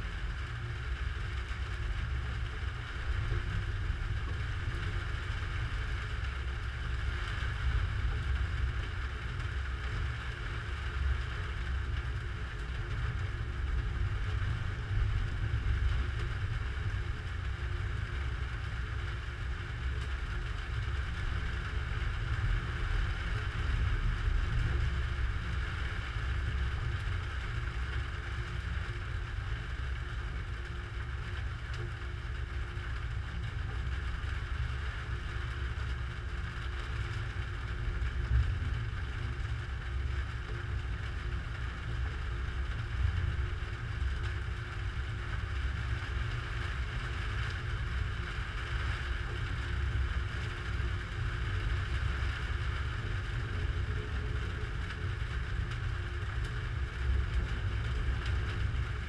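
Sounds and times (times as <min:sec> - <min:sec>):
muffled thunderstorm wind rumble: 0:00.0 - 0:59.0.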